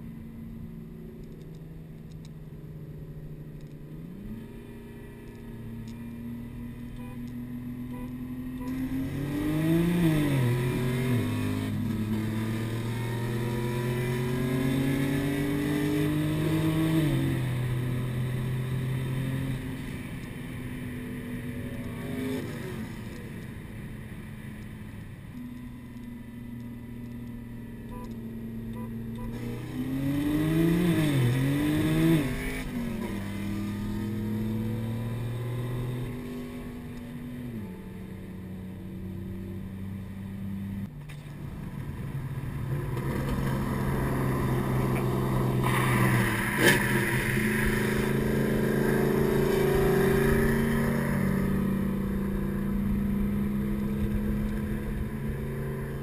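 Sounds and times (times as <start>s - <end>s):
car engine revving through gears: 3.6s - 23.5s, 27.9s - 40.9s, 42.7s - 56.0s.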